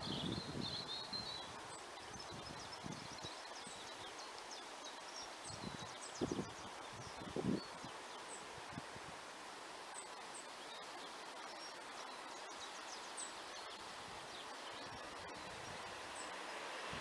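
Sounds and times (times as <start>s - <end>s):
breeze through trees and grass: 0.0s - 17.0s.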